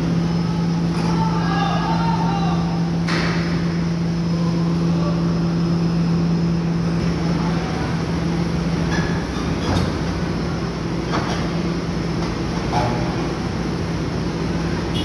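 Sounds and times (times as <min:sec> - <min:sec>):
diesel machinery humming: 0:00.0 - 0:15.0.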